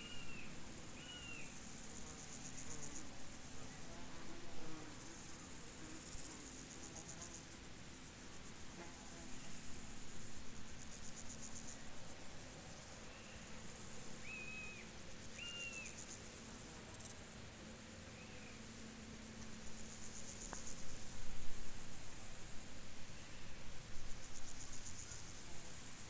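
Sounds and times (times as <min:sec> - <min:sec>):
field insects chirping: 0:00.0 - 0:26.0
soft steady hiss: 0:00.0 - 0:26.0.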